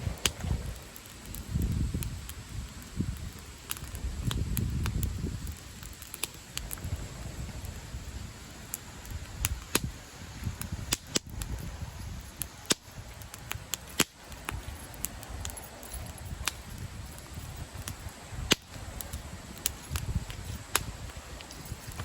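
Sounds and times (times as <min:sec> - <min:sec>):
campfire crackling and popping: 0:00.0 - 0:22.0
low rumble of flames: 0:00.0 - 0:22.0.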